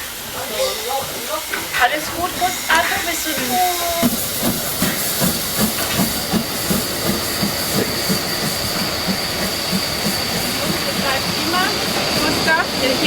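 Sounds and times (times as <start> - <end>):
hiss of steam: 0.0 - 13.0
steam train running beat: 0.0 - 13.0.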